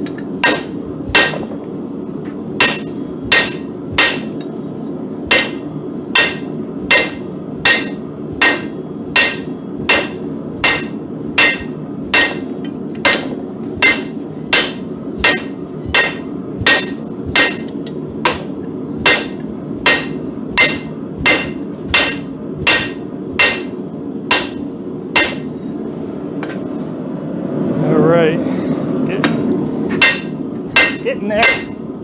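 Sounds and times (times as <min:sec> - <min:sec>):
hammer striking steel on anvil: 0:00.0 - 0:01.6, 0:02.3 - 0:04.6, 0:05.3 - 0:25.7, 0:29.3 - 0:31.9.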